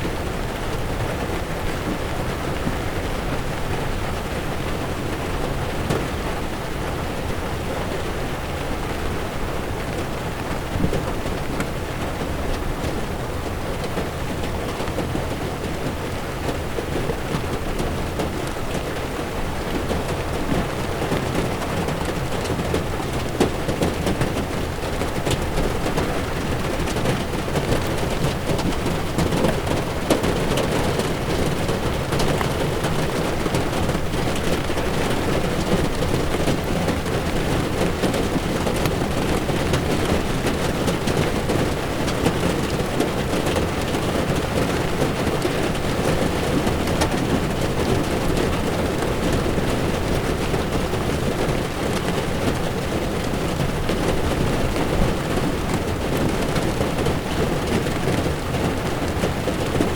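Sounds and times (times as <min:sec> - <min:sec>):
heavy rain on a windshield: 0:00.0 - 0:59.9
tyres on a wet road: 0:00.0 - 0:59.9.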